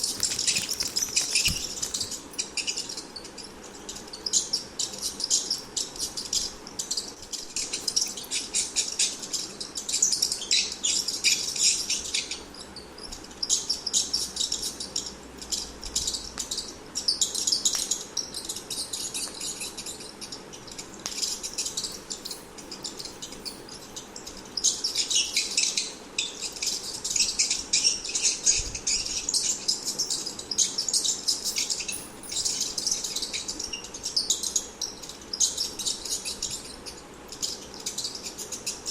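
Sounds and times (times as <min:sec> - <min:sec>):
rat squeaking: 0:00.0 - 0:12.3, 0:13.0 - 0:38.9.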